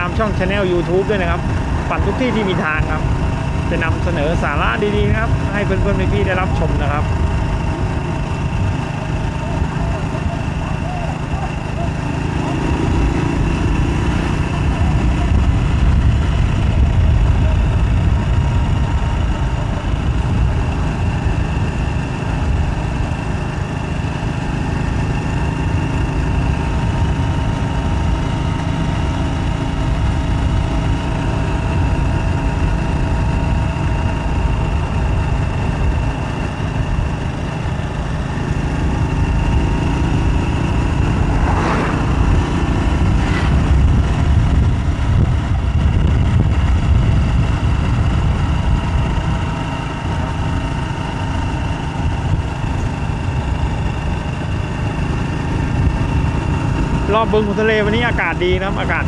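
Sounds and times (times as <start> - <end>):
car engines running: 0.0 - 59.0
low traffic rumble: 0.0 - 59.0.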